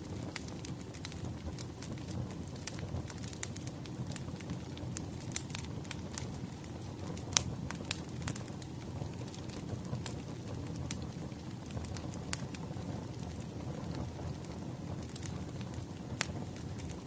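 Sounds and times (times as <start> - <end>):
fire low rumble: 0.0 - 17.0
wood fire crackling: 0.0 - 17.0.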